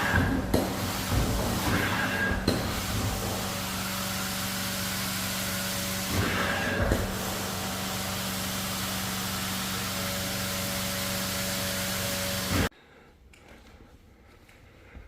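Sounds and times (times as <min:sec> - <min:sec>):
carpet extraction machine humming: 0:00.0 - 0:12.7.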